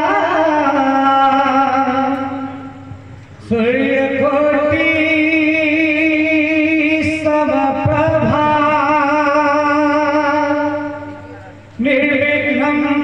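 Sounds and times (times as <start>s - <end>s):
man singing: 0.0s - 2.8s, 3.4s - 11.2s, 11.8s - 13.0s.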